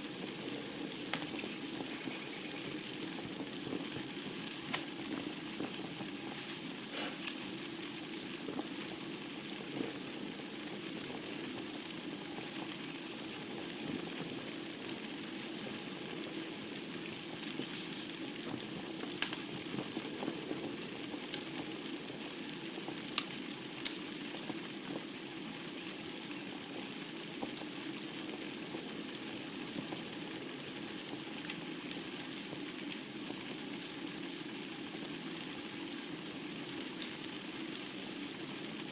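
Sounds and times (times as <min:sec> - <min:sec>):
fire popping: 0:00.0 - 0:38.9
wood fire crackling: 0:00.0 - 0:38.9.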